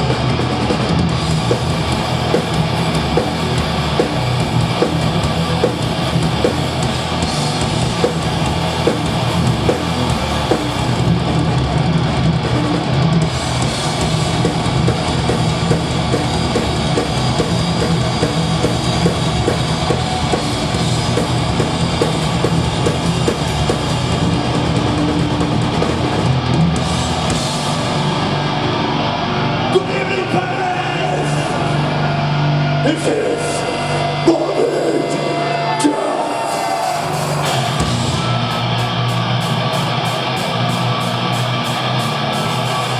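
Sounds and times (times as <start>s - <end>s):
drum kit: 0.0s - 28.5s, 34.1s - 42.9s
bass guitar chugging: 0.0s - 42.9s
distorted electric guitars: 0.0s - 42.9s.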